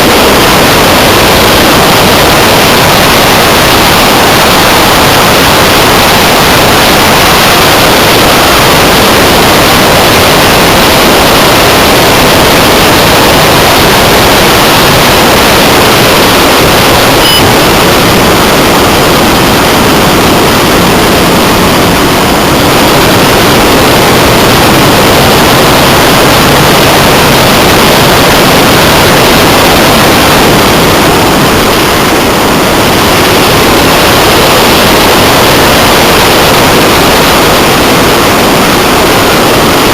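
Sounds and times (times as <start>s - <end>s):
electric motor noise: 0.0s - 39.9s
rush of airflow: 0.0s - 39.9s.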